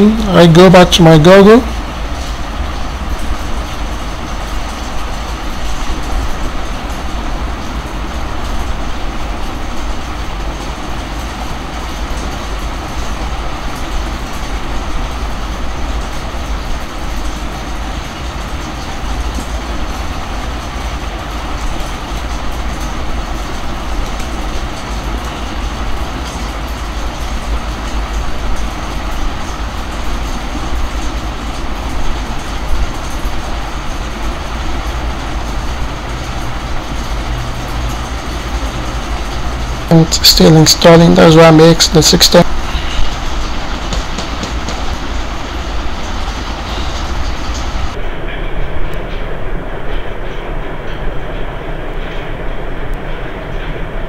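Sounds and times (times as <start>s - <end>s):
mechanical rumble with hiss: 0.0s - 54.0s.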